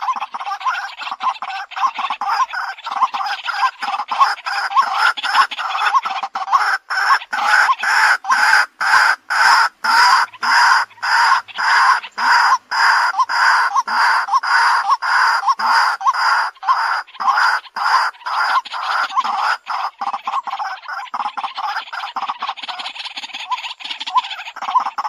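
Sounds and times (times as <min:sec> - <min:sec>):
waterhen calling harsh notes: 0:00.0 - 0:25.0.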